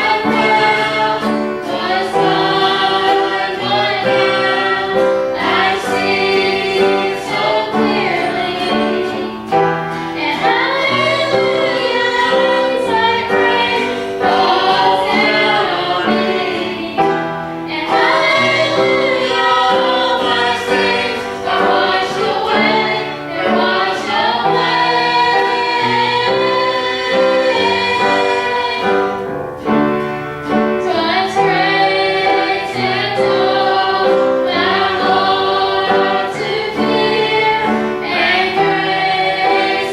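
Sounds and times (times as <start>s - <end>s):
choir singing a hymn: 0.0s - 39.9s
steady accompaniment: 0.0s - 39.9s.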